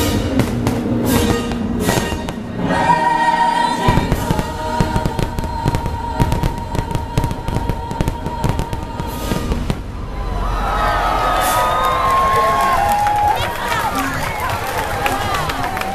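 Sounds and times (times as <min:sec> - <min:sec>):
fireworks bursting and crackling: 0:00.0 - 0:02.7, 0:03.8 - 0:15.9
music with long held note: 0:00.0 - 0:13.1.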